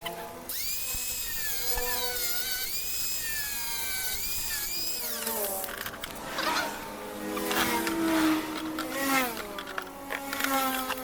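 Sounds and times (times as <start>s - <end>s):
power tool whining: 0.0s - 11.0s.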